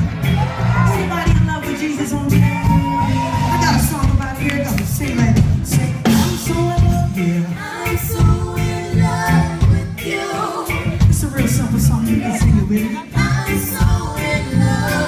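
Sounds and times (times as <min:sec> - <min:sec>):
heavy bass line: 0:00.0 - 0:10.1, 0:10.7 - 0:15.0
gospel band playing: 0:00.0 - 0:15.0
person singing: 0:00.9 - 0:15.0.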